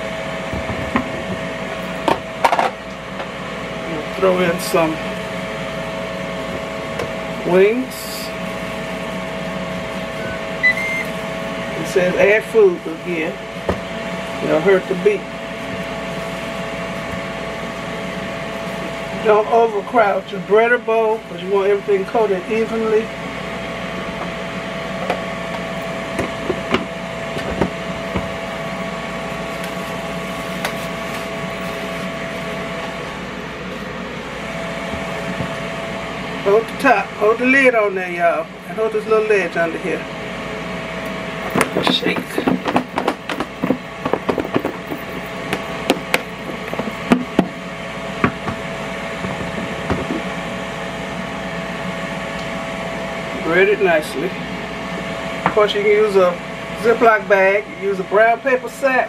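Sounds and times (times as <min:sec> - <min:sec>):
air fryer fan humming: 0:00.0 - 0:59.0.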